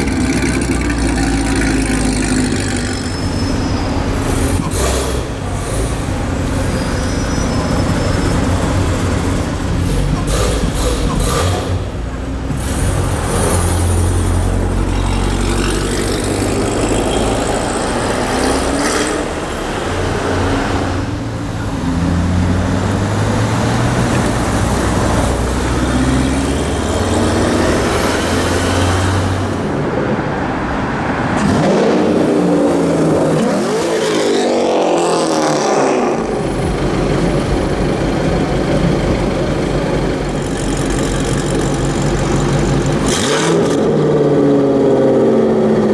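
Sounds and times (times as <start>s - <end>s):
cars revving and driving past: 0.0s - 45.9s.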